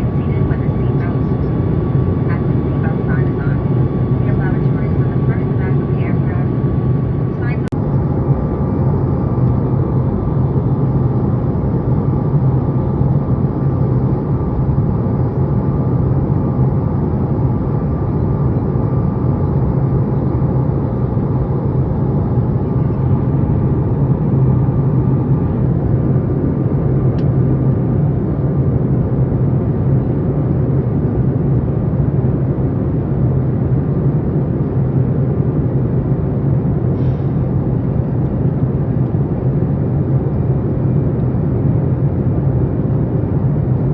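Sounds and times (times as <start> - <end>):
jet engine drone and airflow: 0.0 - 43.9
steady low hum: 0.0 - 43.9.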